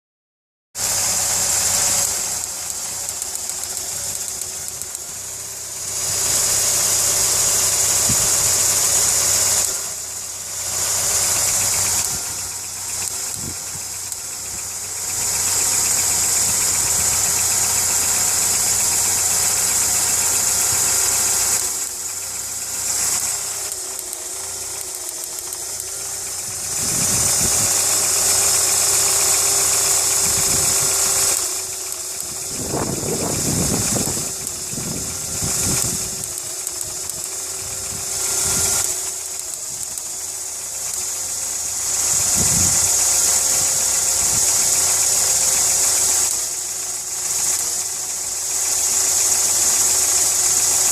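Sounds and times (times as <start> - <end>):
car engine running: 0.8 - 50.9
engine ticking: 0.8 - 50.9.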